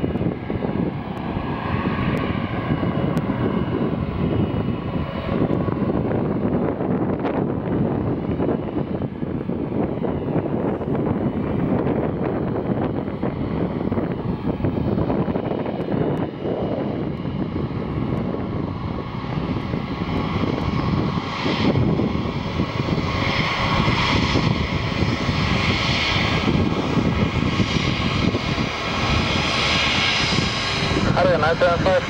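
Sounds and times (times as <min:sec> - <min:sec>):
high engine whine: 0:00.0 - 0:32.0
jet engines rumbling: 0:00.0 - 0:32.0.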